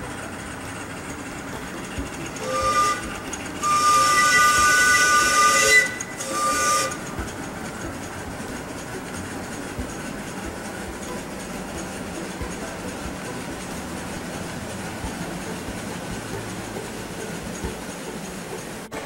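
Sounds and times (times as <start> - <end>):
steam locomotive chime whistle: 0.0 - 19.0.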